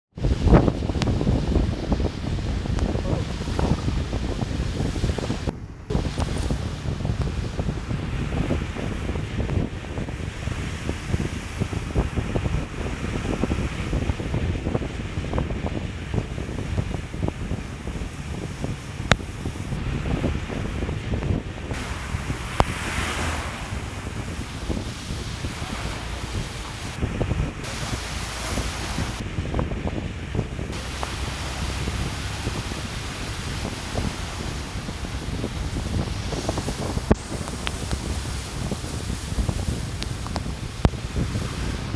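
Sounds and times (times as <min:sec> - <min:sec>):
wind buffeting microphone: 0:00.1 - 0:41.9
floodwater rushing: 0:00.2 - 0:41.9.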